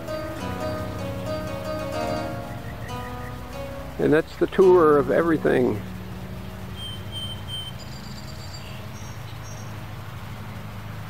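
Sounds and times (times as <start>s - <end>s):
bird chirping: 0.0s - 9.8s
steady low hum: 0.0s - 11.0s.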